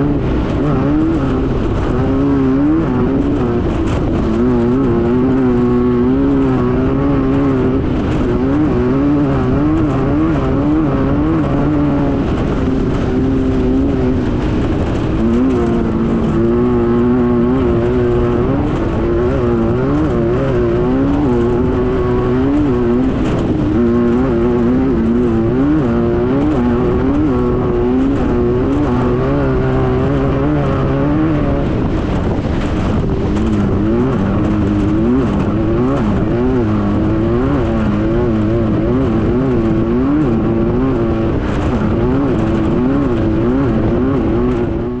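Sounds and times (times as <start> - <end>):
buggy engine revving: 0.0 - 45.0
noisy rush: 0.0 - 45.0.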